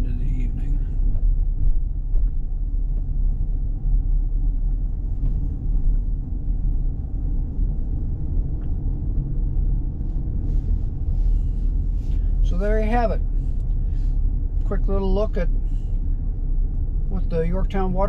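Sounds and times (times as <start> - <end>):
car road rumble from inside: 0.0 - 18.0.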